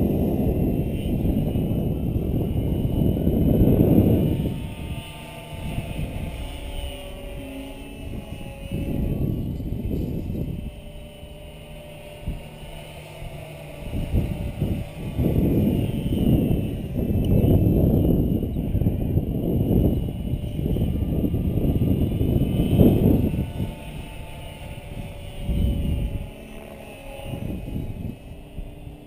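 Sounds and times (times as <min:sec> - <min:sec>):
distant rc helicopter whine: 0:00.0 - 0:29.0
wind buffeting microphone: 0:00.0 - 0:29.0.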